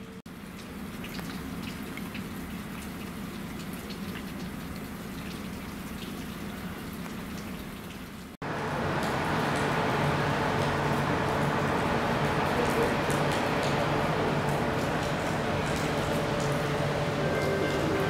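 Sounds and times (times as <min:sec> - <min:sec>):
rain falling: 0:00.3 - 0:18.0.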